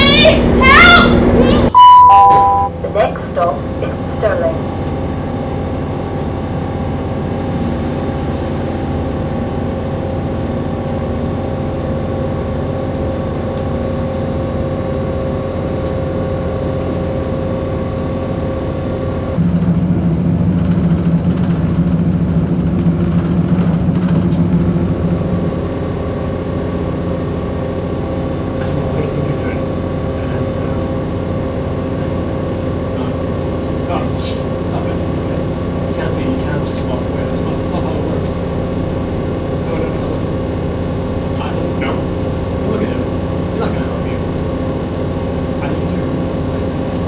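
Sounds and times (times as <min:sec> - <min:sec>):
train carriage running hum: 0:00.0 - 0:47.0.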